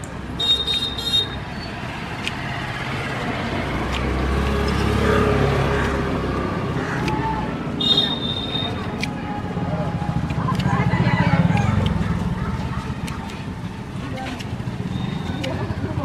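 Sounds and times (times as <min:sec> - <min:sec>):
vehicle passing: 0:01.4 - 0:16.0.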